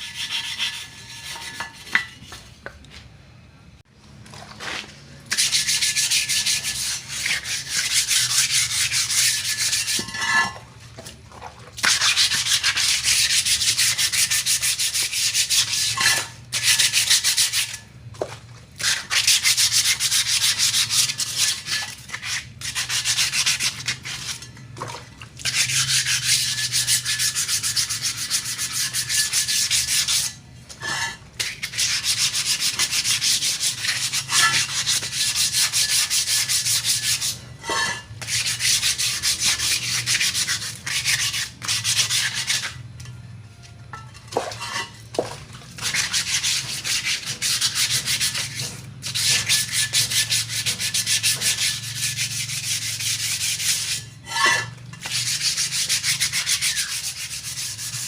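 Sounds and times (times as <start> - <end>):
hand sanding metal rim: 0.0 - 2.4, 5.3 - 10.6, 11.8 - 17.8, 18.8 - 24.5, 25.4 - 42.8, 44.0 - 58.0.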